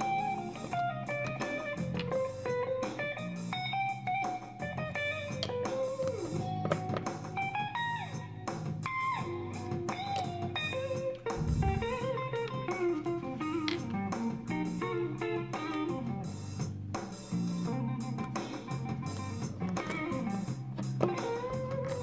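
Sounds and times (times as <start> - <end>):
plucked guitar melody: 0.0 - 8.2, 8.8 - 16.2, 17.7 - 22.0.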